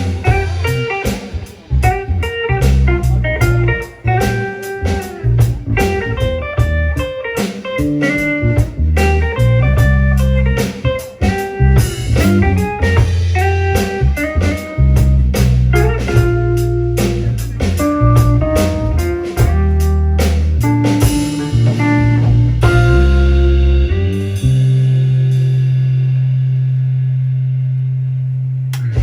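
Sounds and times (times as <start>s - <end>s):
steady drum beat: 0.0s - 27.4s
bass notes: 0.0s - 29.0s
guitar: 0.0s - 29.0s.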